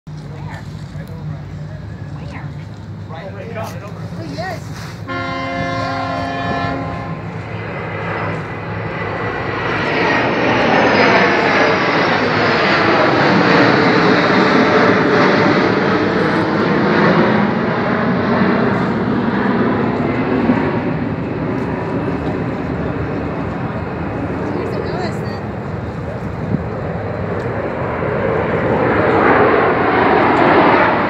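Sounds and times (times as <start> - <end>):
jet engines roaring overhead: 0.1 - 31.0.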